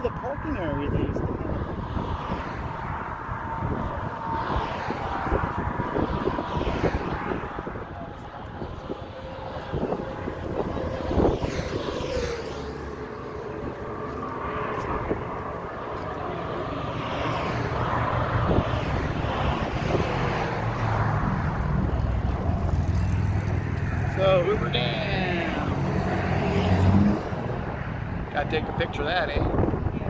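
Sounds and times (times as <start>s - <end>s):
engine rumble of passing vehicle: 0.0s - 30.0s.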